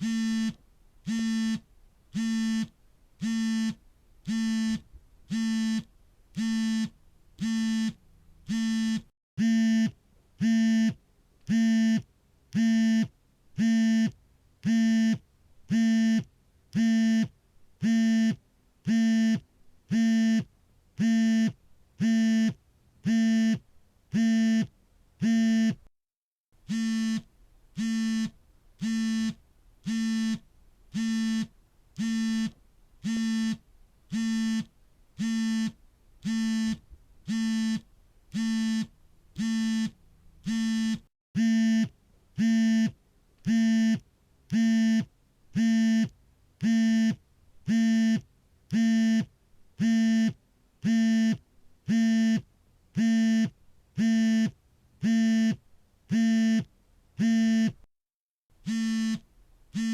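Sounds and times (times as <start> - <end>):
smartphone vibrating: 0.0 - 1.6, 2.2 - 25.8, 26.7 - 52.4, 53.0 - 57.8, 58.6 - 59.9.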